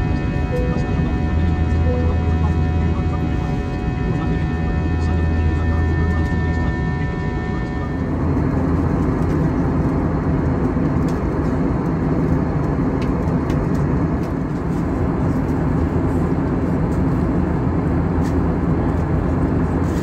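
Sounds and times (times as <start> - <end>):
airplane cabin engine drone: 0.0 - 20.0.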